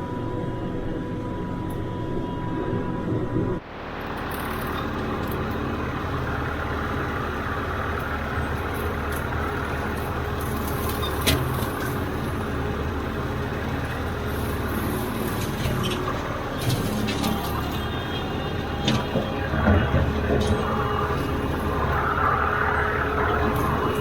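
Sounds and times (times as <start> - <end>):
mower engine cutting grass: 3.6 - 24.0.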